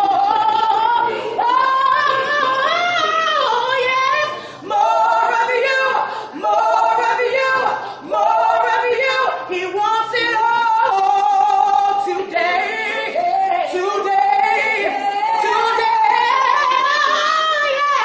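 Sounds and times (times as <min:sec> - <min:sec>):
woman and man singing a cappella: 0:00.0 - 0:18.0.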